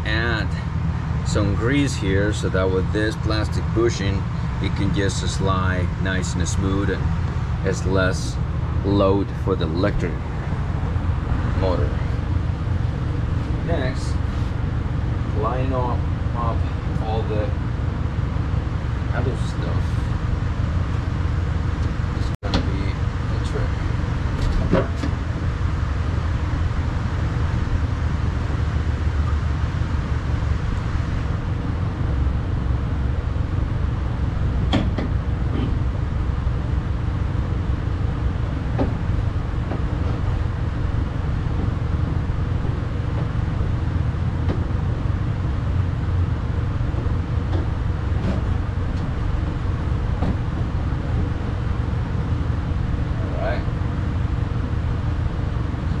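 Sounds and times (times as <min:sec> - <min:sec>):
low rumble: 0:00.0 - 0:56.0.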